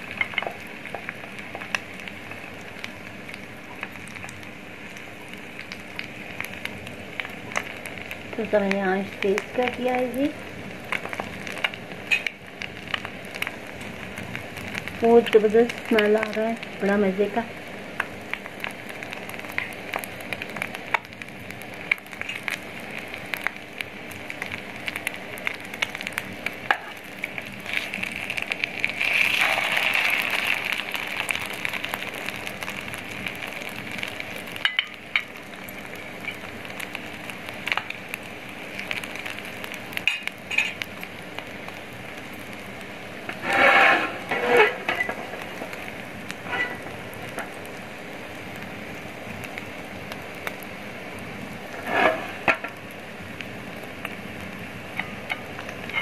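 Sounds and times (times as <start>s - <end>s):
crackling pops of frying oil: 0.0s - 56.0s
meat sizzling in fat: 0.0s - 56.0s.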